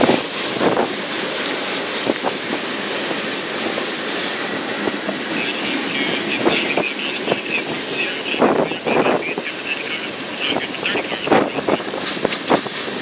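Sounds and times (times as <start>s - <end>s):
freight cars rumbling and rattling: 0.0s - 13.0s.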